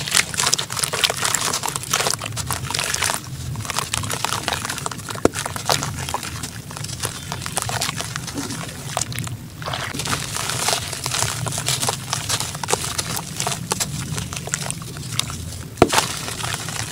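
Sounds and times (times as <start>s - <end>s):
water sloshing: 0.0s - 16.9s.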